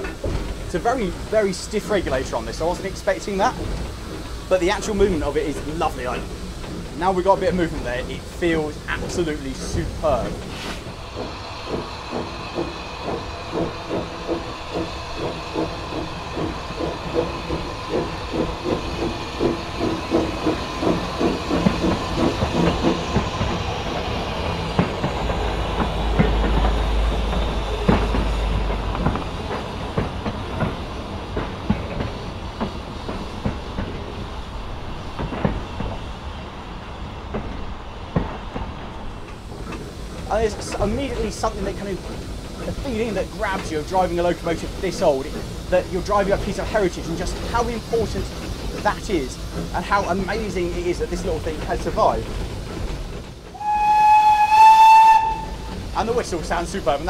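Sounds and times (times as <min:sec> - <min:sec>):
hissing steam: 0:00.0 - 0:57.0
steam locomotive exhaust chuffs: 0:00.0 - 0:57.0
wagons rumbling by: 0:00.0 - 0:57.0
wheels clicking over rail joints: 0:00.0 - 0:57.0.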